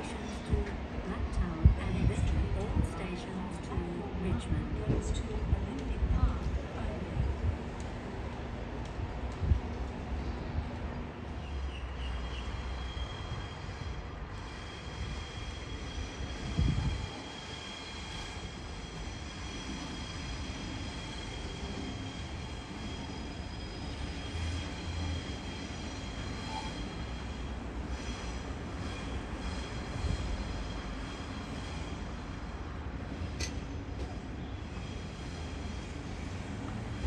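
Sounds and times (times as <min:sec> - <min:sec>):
train rumbling over tracks: 0:00.0 - 0:37.0.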